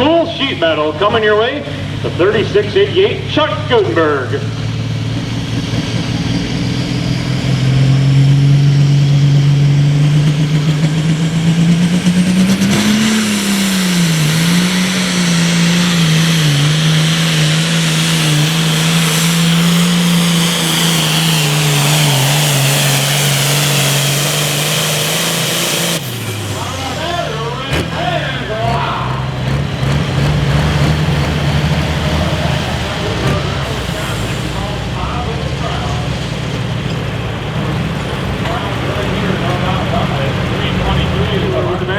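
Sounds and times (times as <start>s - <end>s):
tractor diesel engine at full throttle: 0.0s - 41.9s.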